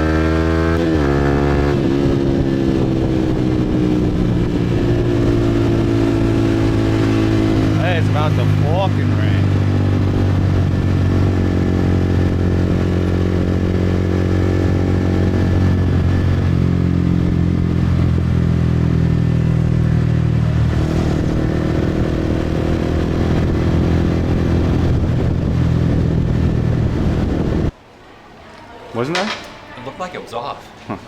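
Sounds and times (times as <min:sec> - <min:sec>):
motorcycle engine running: 0:00.0 - 0:27.7.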